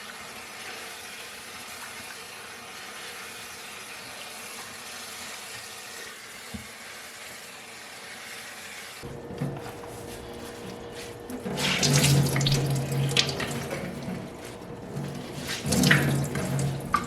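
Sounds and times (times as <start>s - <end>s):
water running from a tap: 0.0s - 9.0s, 11.3s - 17.0s.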